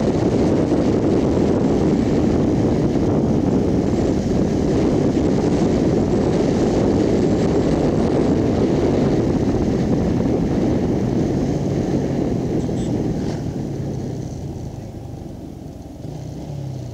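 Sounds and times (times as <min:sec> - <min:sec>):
motorcycle engine running: 0:00.0 - 0:16.9
wind rushing on microphone: 0:00.0 - 0:16.9.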